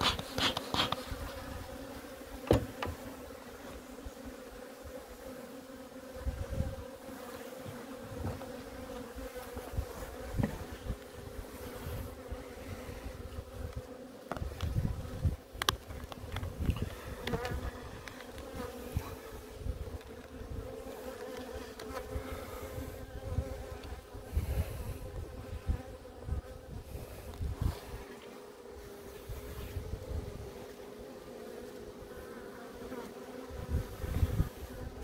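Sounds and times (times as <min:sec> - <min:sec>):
bees humming: 0:00.0 - 0:35.0.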